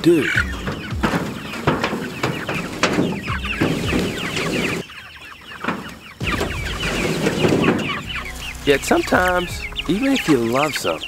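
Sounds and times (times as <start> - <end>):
chickens peeping and clucking: 0.0 - 11.0.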